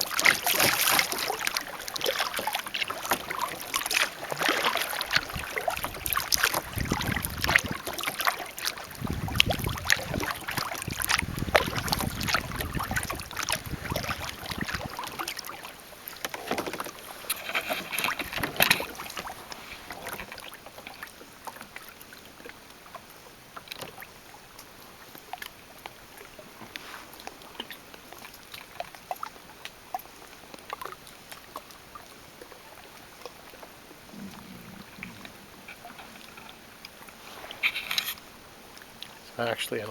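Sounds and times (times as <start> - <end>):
paddle strokes splashing: 0.0 - 39.9.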